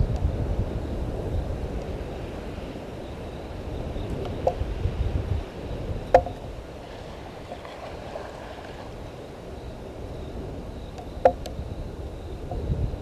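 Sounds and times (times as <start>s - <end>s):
water noise: 0.0s - 13.0s
wind on microphone: 0.0s - 13.0s.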